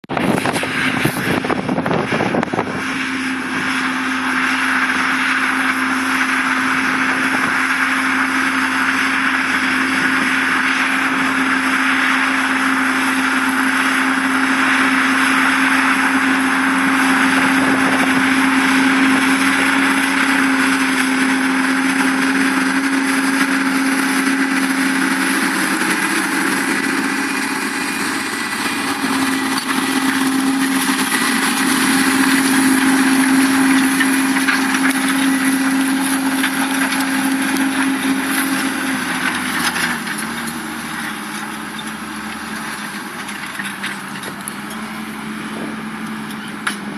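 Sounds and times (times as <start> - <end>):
tractor diesel engine droning: 0.0 - 46.9.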